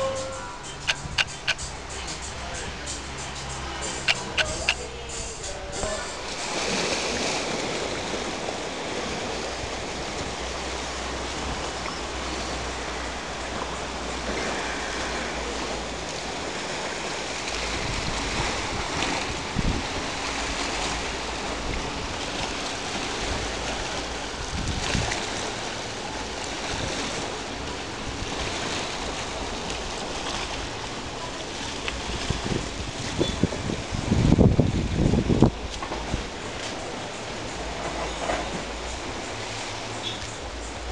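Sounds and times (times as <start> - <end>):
sea water washing against rocks: 0.0 - 40.9
wind hissing over microphone: 0.0 - 40.9.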